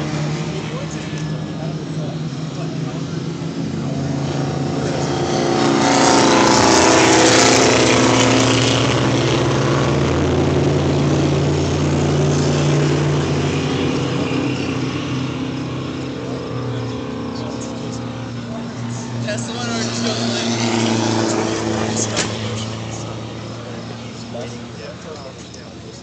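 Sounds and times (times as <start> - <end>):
race car passing by: 0.0 - 25.5
steady engine hum: 0.0 - 26.0.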